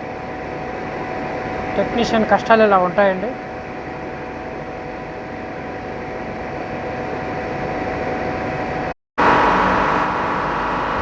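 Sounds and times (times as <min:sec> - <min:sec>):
refrigeration machinery humming: 0:00.0 - 0:11.0.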